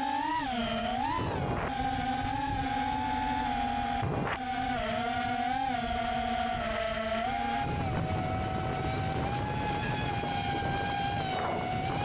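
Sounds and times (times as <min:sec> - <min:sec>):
drone motors whining: 0:00.0 - 0:12.0
wind rumble on microphone: 0:00.8 - 0:12.0.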